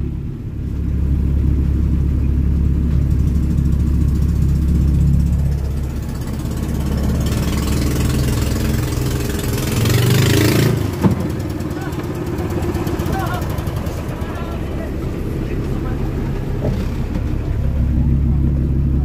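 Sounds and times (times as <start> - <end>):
boat engine drone: 0.0 - 19.0
water rushing along hull: 0.0 - 19.0.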